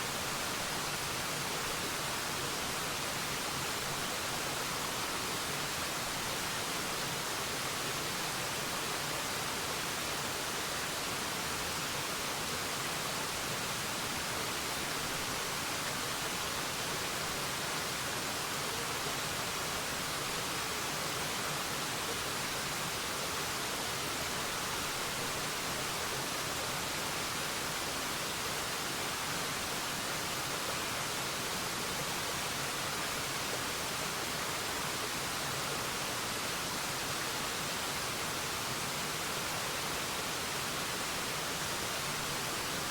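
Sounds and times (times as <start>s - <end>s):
waterfall hiss: 0.0s - 42.9s.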